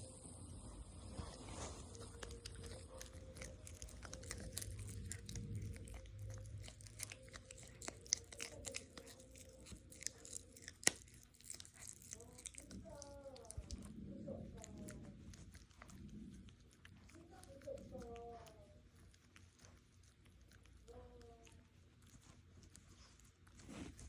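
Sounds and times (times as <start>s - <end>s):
pet crunching a treat: 0.0s - 24.0s.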